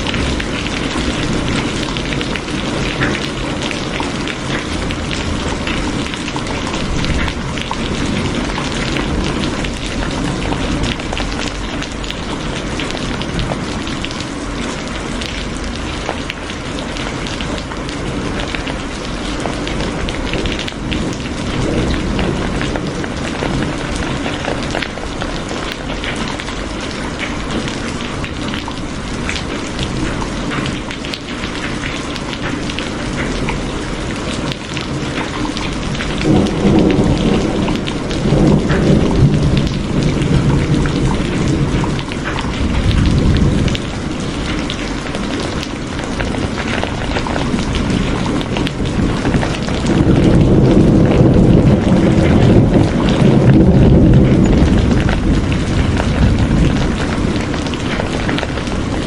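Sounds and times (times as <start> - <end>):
rain drops ticking on surface: 0.0 - 59.0
thunder rumbling: 0.0 - 59.0.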